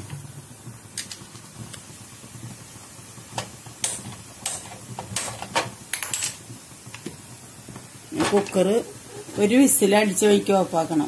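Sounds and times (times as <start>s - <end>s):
pressure cooker hissing puffs: 0.0s - 11.0s.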